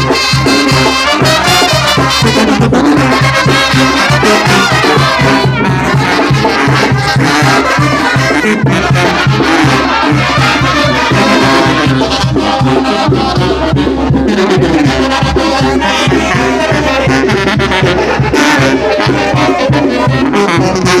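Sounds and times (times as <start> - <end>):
brass band playing dance music: 0.0 - 21.0.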